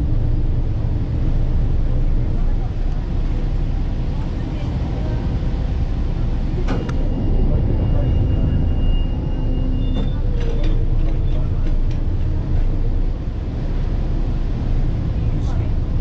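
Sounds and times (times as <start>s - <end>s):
ferry engines rumbling: 0.0s - 16.0s.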